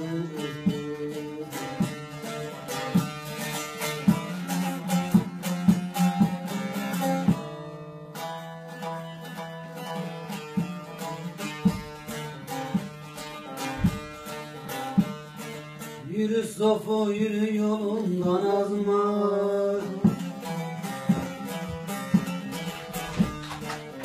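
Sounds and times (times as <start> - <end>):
plucked and strummed lute melody: 0.0 - 24.0.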